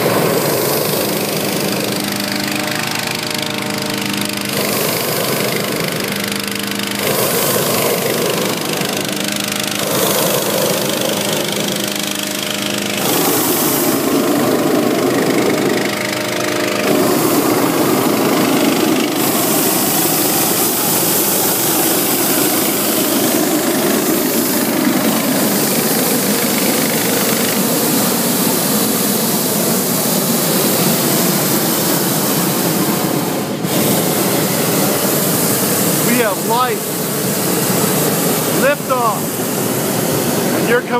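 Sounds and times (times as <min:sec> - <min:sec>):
engine-driven fan running: 0:00.0 - 0:40.9.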